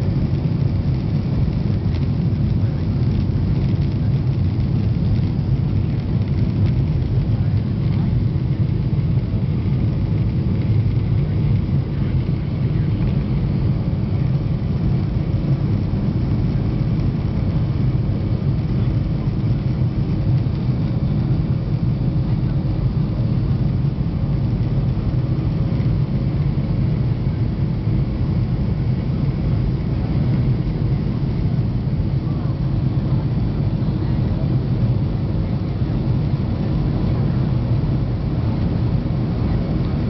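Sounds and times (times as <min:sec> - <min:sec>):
jet engine cabin rumble: 0:00.0 - 0:40.0.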